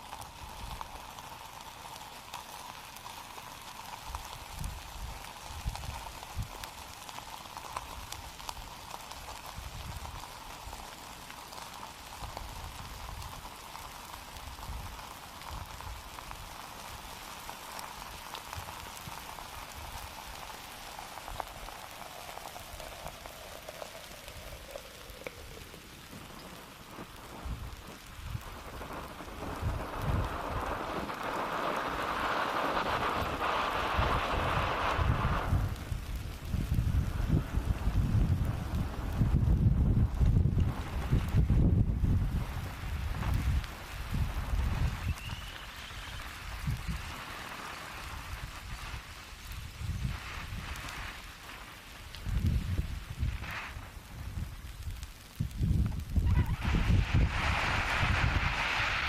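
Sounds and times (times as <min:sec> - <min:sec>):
lava crackling and spattering: 0:00.0 - 0:59.0.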